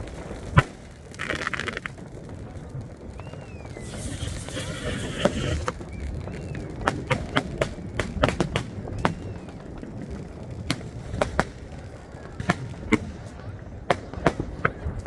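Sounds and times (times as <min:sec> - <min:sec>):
fireworks bangs and cracks: 0:00.0 - 0:15.0
low rumble of distant explosions: 0:00.0 - 0:15.0.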